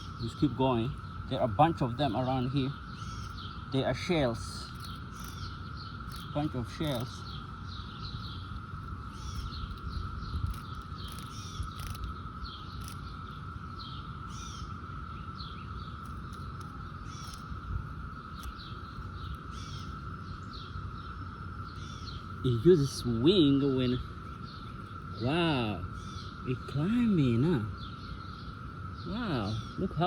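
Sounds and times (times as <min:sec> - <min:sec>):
birds chirping: 0:00.0 - 0:30.0
cicadas droning: 0:00.0 - 0:30.0.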